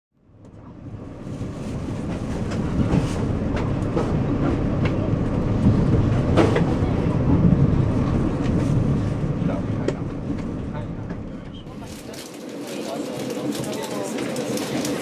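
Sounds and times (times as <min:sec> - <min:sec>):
train rumble inside carriage: 0:00.2 - 0:15.0.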